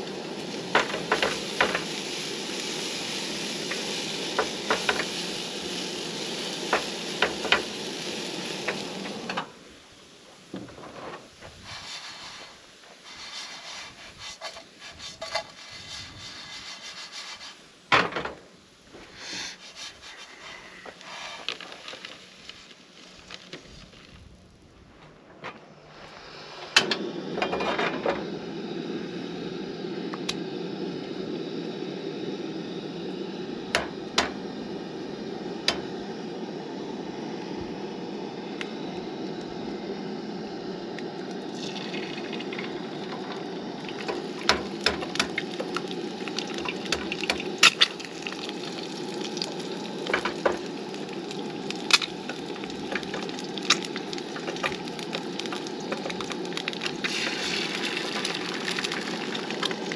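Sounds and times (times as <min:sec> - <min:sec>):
eggs sizzling in a pan: 0:00.0 - 0:10.6, 0:11.3 - 0:18.1, 0:18.7 - 0:24.1, 0:26.2 - 0:59.9
gas burner hiss: 0:00.0 - 0:59.9.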